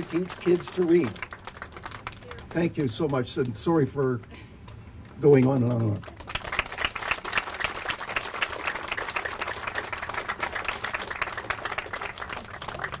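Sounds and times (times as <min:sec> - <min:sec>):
audience applause: 0:00.0 - 0:03.2, 0:05.4 - 0:13.0.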